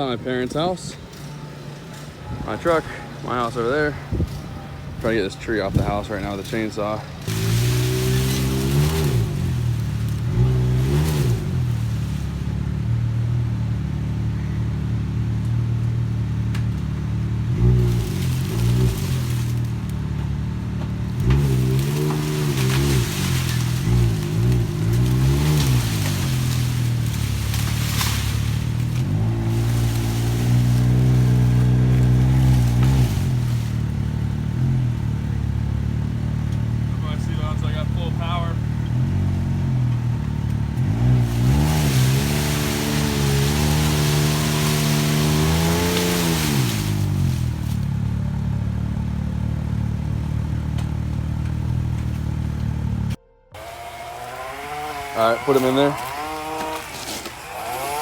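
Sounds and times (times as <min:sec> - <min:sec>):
chainsaw engine revving: 0:05.1 - 0:13.4, 0:17.4 - 0:20.0, 0:20.8 - 0:48.0, 0:49.4 - 0:58.0.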